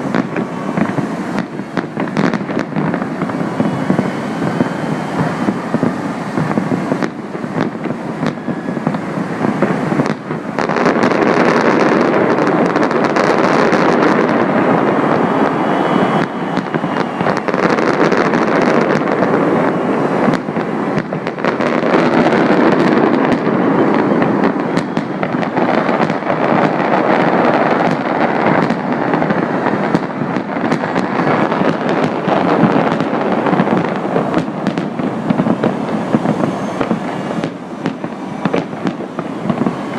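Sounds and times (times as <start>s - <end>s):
fireworks bursts and crackling: 0.0s - 39.9s.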